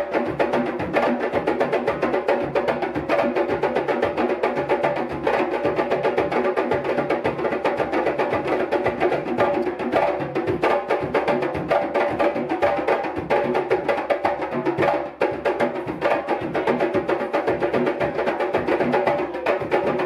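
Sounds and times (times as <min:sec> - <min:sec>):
djembe drums playing: 0:00.0 - 0:20.0.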